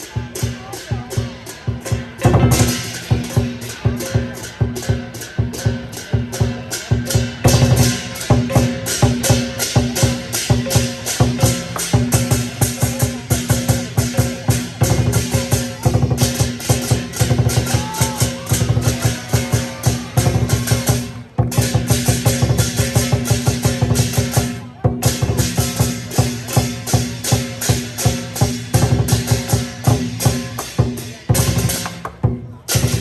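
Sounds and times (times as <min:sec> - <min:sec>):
cymbals clashing: 0:00.0 - 0:33.0
large drum beaten fast: 0:00.0 - 0:33.0.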